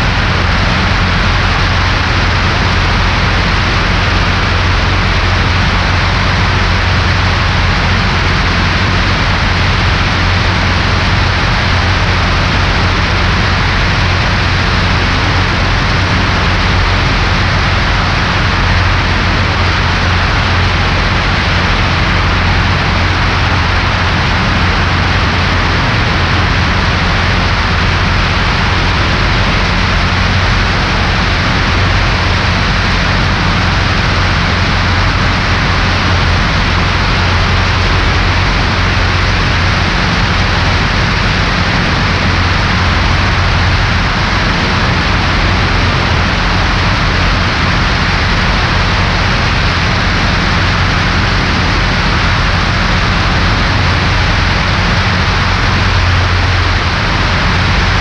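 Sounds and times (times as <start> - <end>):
airplane engine and propeller droning: 0.0 - 58.0.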